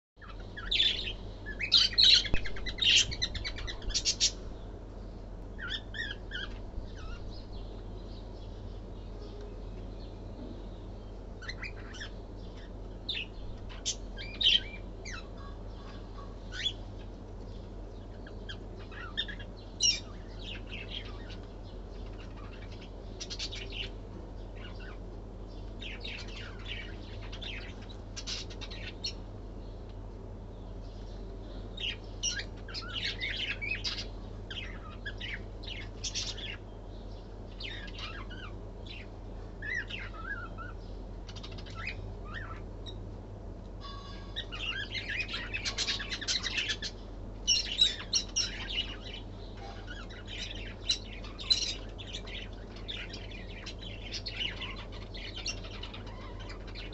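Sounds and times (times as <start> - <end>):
lovebirds chirping: 0.2 - 56.9
steady low hum: 0.2 - 56.9.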